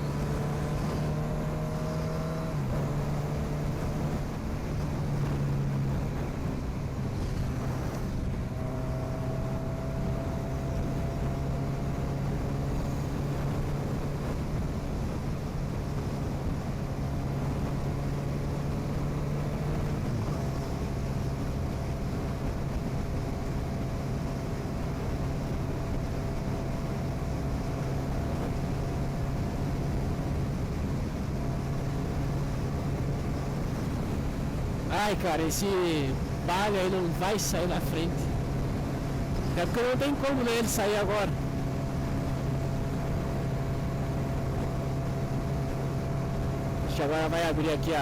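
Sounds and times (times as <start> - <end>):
wind on microphone: 0.0 - 46.9
motorcycle engine cruising: 0.0 - 48.0.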